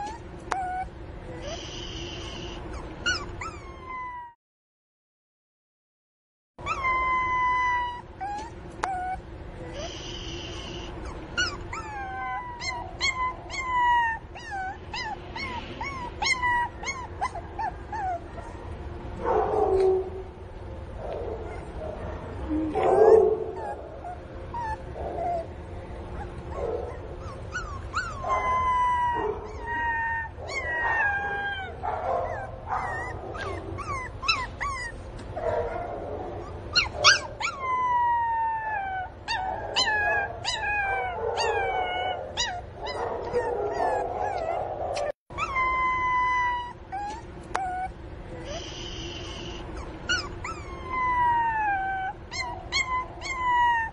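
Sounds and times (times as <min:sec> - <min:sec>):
puppy whimpering and yelping: 0:00.0 - 0:04.4, 0:06.6 - 0:18.8, 0:21.4 - 0:53.9.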